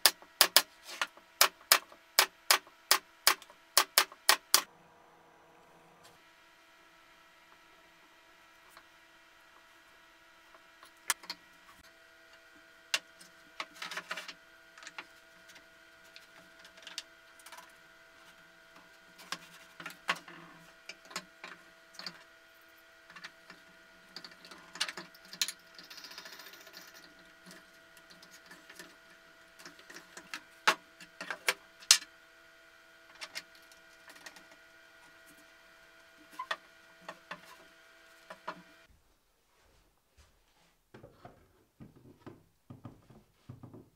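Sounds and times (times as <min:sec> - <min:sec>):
steady hum: 0:00.0 - 0:38.9.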